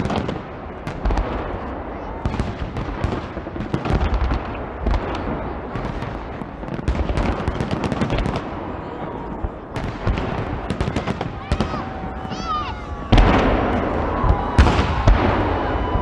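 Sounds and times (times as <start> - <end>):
firework shells booming: 0.0 - 12.4, 13.0 - 16.0
fireworks crackling: 0.0 - 16.0.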